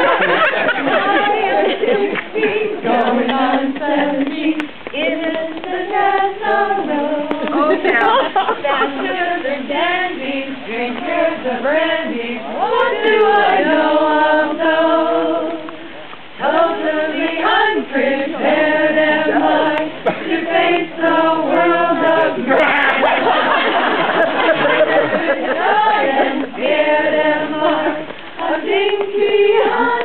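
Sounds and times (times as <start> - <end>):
group singing unaccompanied: 0.0 - 30.0.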